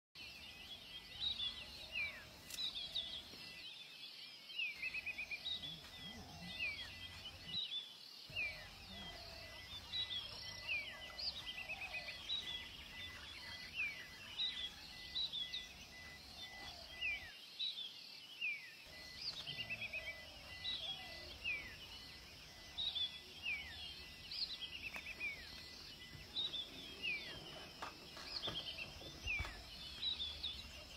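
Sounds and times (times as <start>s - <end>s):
birds chirping: 0.2s - 30.9s.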